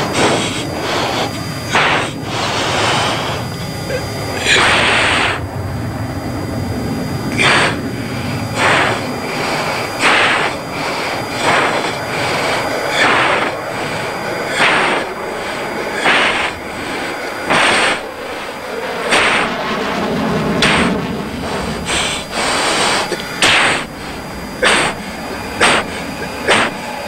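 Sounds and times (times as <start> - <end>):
jet engine noise: 0.0 - 27.0
forceful breathing into mask microphone: 0.2 - 5.4, 7.3 - 18.5, 20.6 - 26.9.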